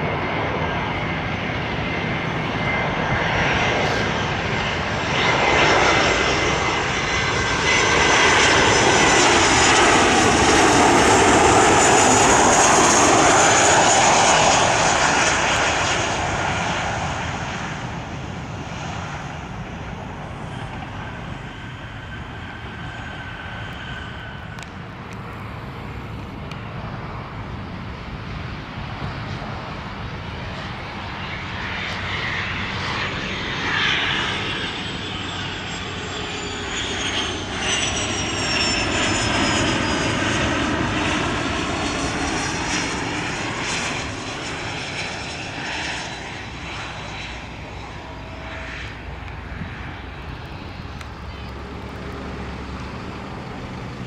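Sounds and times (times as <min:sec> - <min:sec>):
jet airliner passing: 0:00.0 - 0:54.0.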